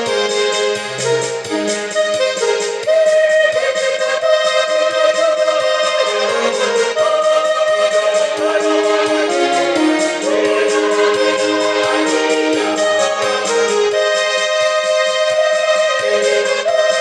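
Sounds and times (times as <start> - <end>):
electronic keyboard chords: 0.0 - 17.0
rhythm track beat: 0.0 - 17.0.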